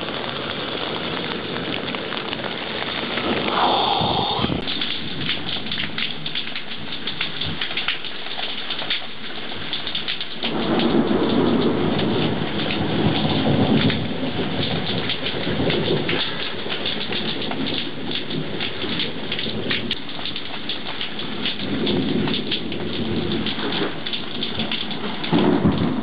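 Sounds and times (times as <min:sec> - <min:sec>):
heavy rain: 0:00.0 - 0:26.0
thunder rumble: 0:00.0 - 0:26.0.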